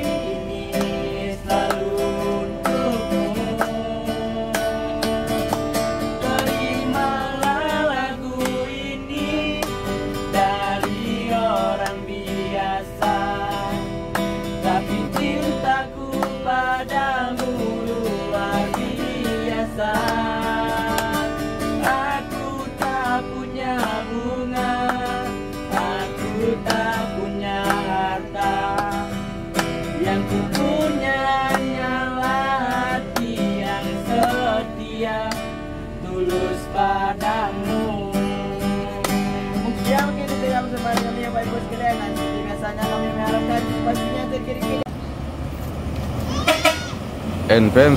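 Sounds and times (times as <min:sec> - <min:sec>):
acoustic guitar strumming: 0:00.0 - 0:44.9, 0:46.3 - 0:47.0.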